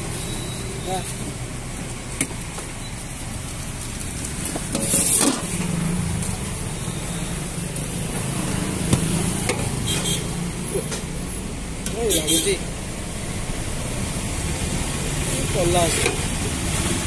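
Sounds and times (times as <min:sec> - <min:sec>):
roadside traffic: 0:00.0 - 0:17.0.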